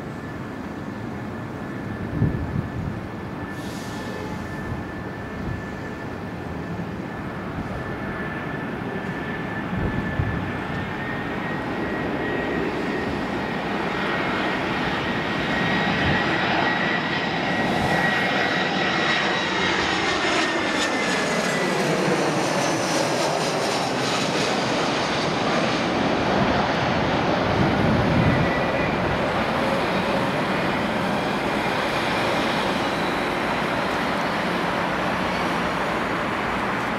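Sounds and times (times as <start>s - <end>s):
jet plane flying overhead: 0.0s - 36.9s.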